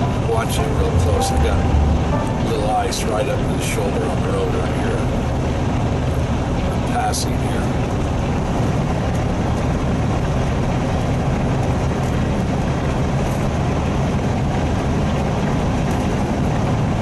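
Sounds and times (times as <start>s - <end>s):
road noise: 0.0s - 17.0s
truck diesel engine drone: 0.0s - 17.0s.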